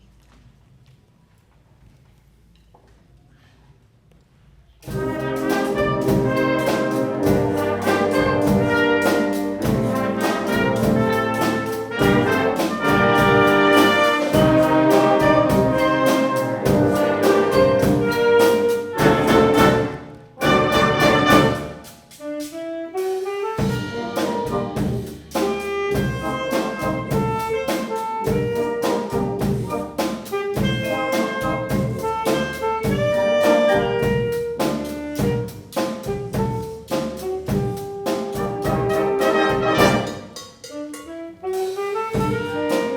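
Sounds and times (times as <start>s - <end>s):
wind band playing jazzy music: 4.8s - 42.9s.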